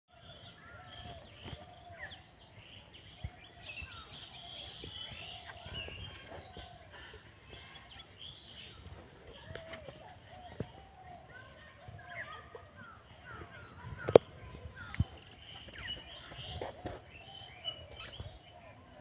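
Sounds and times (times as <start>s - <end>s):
birds chirping and calling: 0.1s - 19.0s.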